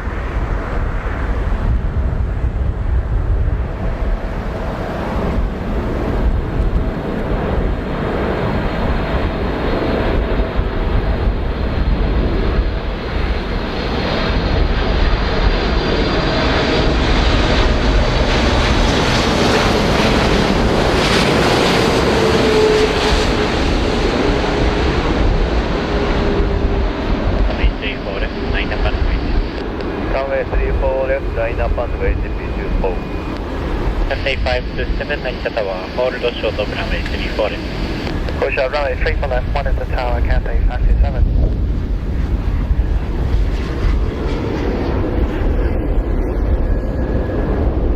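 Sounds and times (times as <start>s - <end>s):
jet airplane passing low: 0.0s - 47.9s
wind rumbling on microphone: 0.0s - 47.9s.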